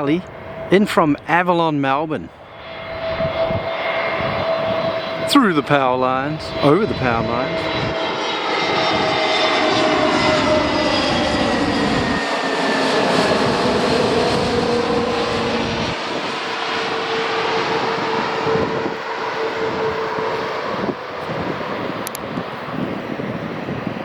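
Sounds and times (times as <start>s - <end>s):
jet engines whining: 0.0s - 24.0s
loud rushing noise of airliner: 0.0s - 24.0s.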